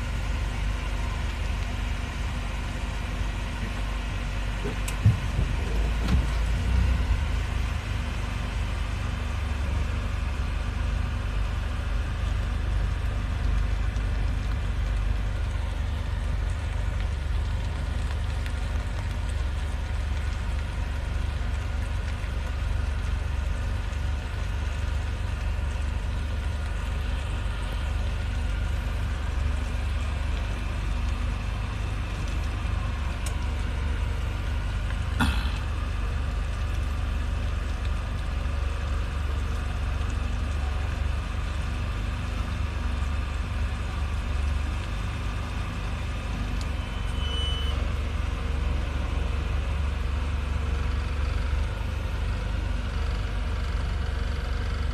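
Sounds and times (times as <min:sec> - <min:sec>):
faint engine hum: 0:00.0 - 0:54.9
vehicles rumbling slowly: 0:00.0 - 0:54.9.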